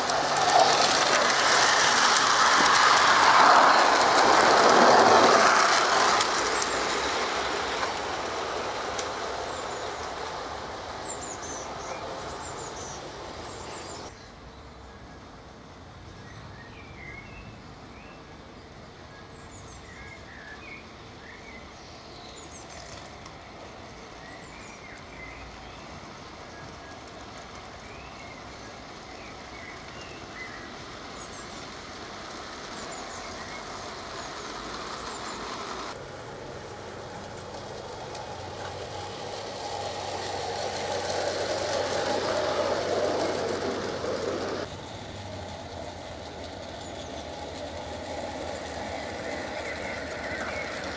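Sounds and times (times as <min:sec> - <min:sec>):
small birds chirping: 0:00.0 - 0:14.9, 0:19.2 - 0:36.0, 0:36.6 - 0:50.9
model train wheels on rails: 0:00.0 - 0:50.9.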